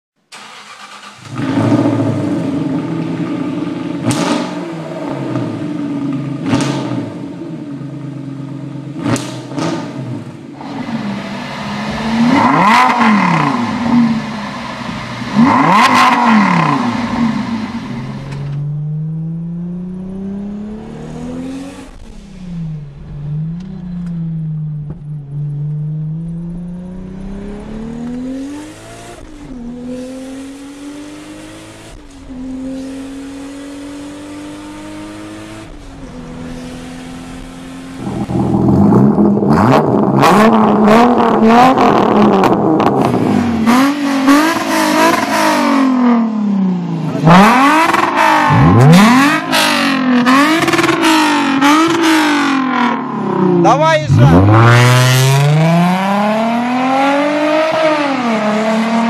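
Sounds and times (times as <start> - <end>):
car engine accelerating through gears: 0.3 - 59.0
car engine revving hard: 0.3 - 59.0.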